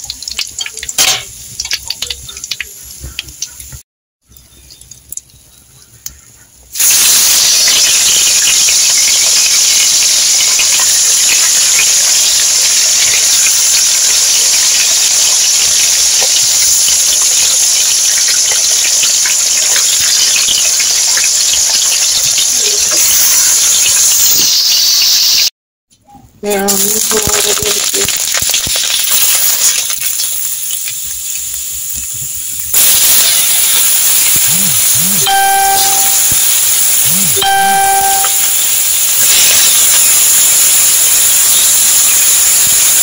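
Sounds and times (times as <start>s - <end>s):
food sizzling in hot oil: 0.0s - 3.8s, 6.7s - 25.5s, 26.4s - 43.0s.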